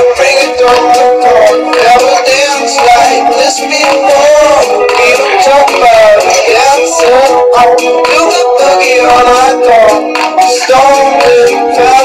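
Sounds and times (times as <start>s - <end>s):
woman singing pop song: 0.0s - 12.0s.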